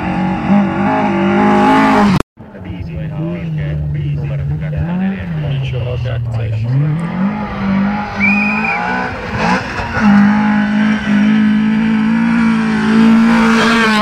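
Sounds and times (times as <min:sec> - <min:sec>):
rally car engine at high revs: 0:00.0 - 0:02.2, 0:03.1 - 0:14.0.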